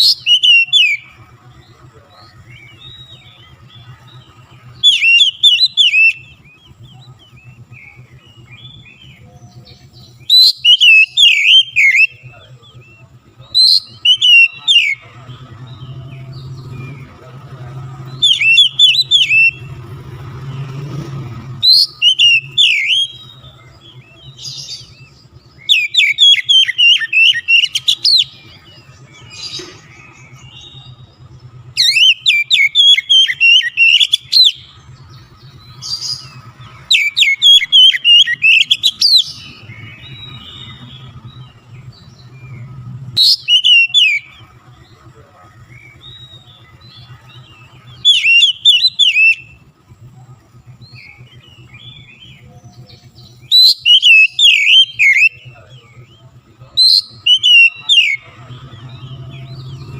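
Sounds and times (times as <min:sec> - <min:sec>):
bird chirps: 0:00.0 - 0:59.9
songbird whistling song: 0:00.0 - 0:59.9.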